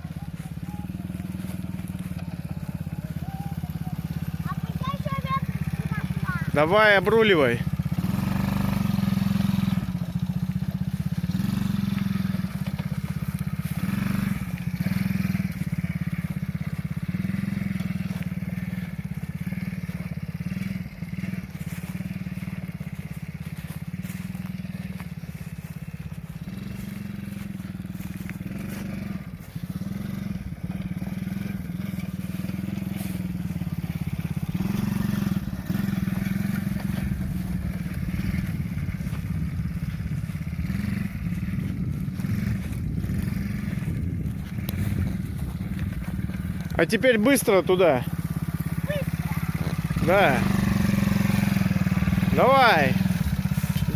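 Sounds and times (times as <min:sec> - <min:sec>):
small atv engine running: 0:00.0 - 0:53.9.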